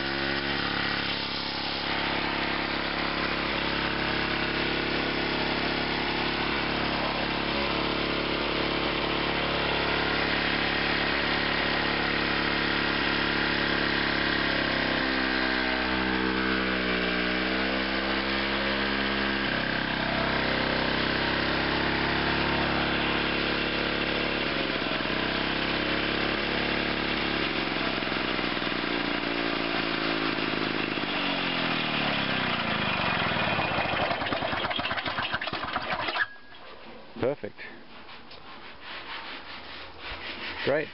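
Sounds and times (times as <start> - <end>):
lawn mower engine running: 0.0 - 37.4.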